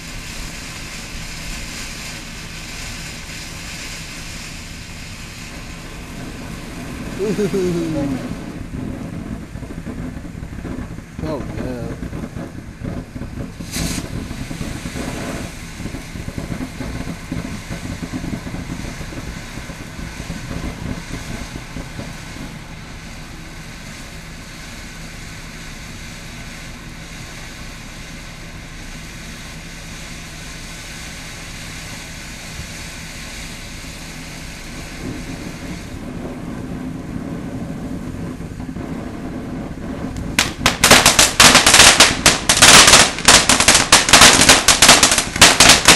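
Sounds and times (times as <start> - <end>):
firework fountain hissing: 0.0 - 45.9
firework sharp crack: 0.0 - 45.9
loud crackling bangs: 0.0 - 45.9.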